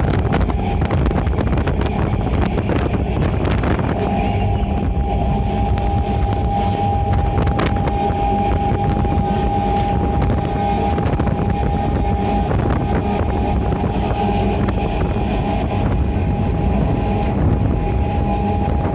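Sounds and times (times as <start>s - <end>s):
steady high tone: 0.0s - 18.9s
train rumbling: 0.0s - 18.9s
wind buffeting microphone: 0.0s - 18.9s.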